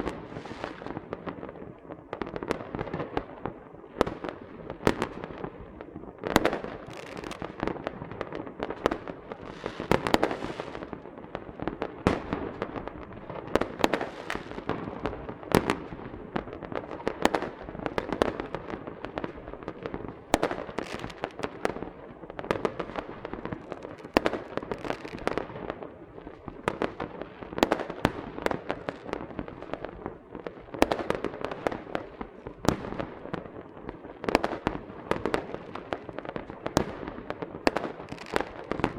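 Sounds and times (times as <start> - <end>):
firecrackers crackling and banging: 0.0 - 38.9.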